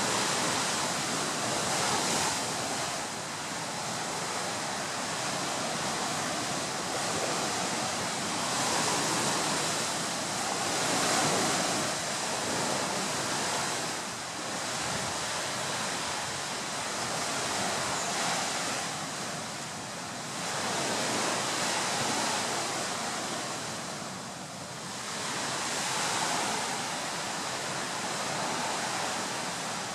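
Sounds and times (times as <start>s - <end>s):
waves breaking: 0.0s - 29.9s.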